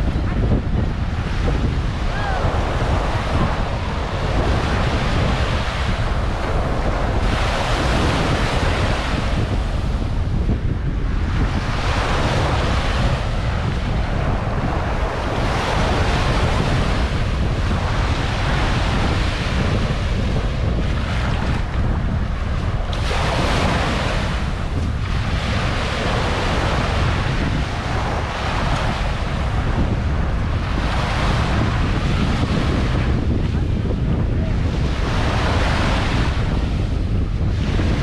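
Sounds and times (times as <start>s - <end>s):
waves washing up a sandy shore: 0.0s - 38.0s
wind buffeting microphone: 0.0s - 38.0s.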